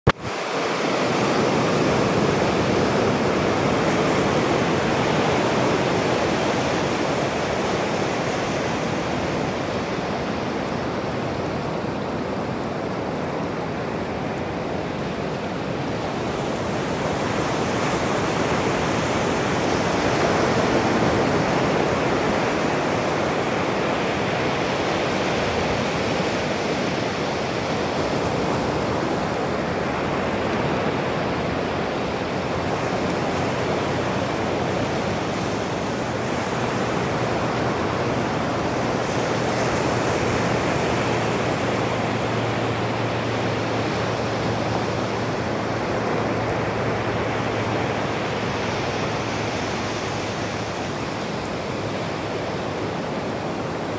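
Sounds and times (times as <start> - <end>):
ocean surf breaking on beach: 0.1 - 53.9.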